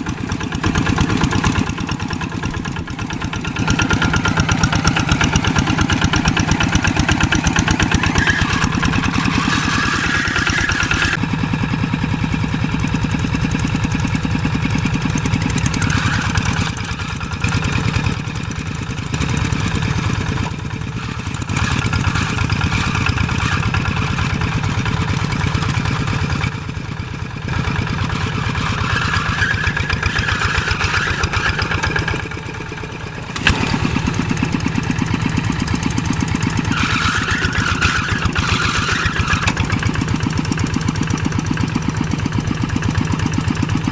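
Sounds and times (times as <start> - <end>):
old tractor engine running: 0.0 - 43.9.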